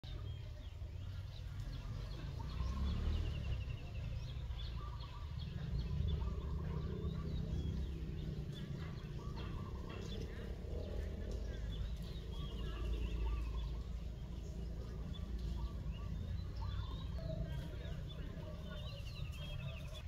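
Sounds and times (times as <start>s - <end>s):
birds chirping and trilling: 0.0s - 20.0s
steady low rumble: 3.5s - 20.0s.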